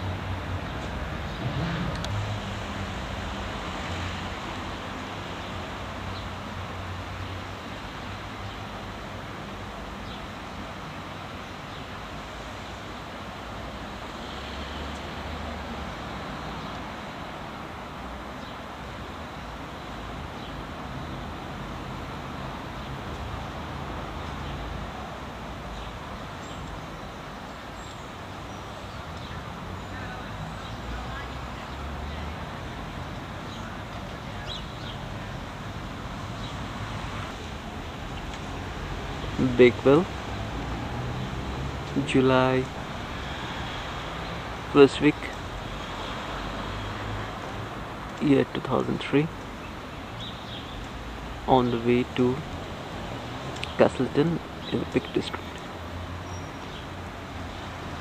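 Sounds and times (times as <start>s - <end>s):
road traffic passing: 0.0s - 58.0s.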